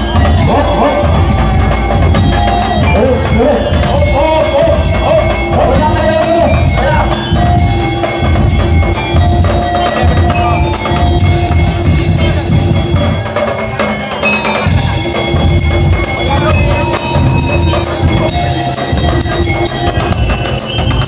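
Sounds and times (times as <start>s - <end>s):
drums beating: 0.0s - 21.0s
sustained melody line: 0.0s - 21.0s
wood block beats: 0.0s - 21.0s.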